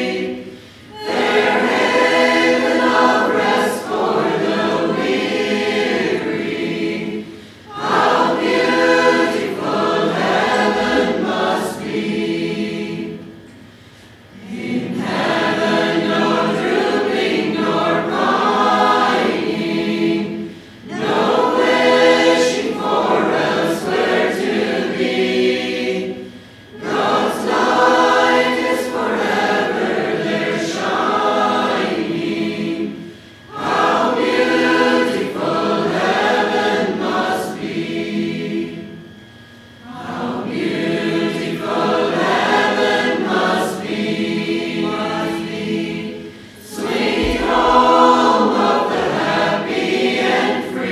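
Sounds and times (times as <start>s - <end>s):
choir singing a hymn: 0.0s - 50.9s.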